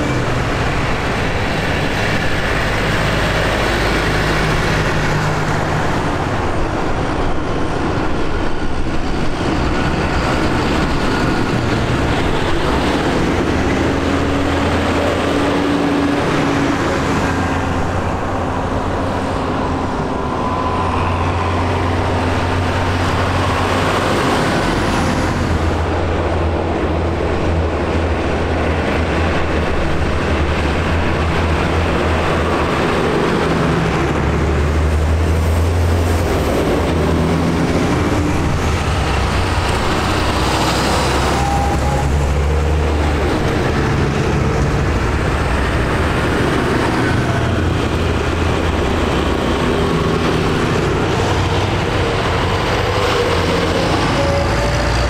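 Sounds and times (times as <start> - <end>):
tractor engines droning: 0.0 - 55.0.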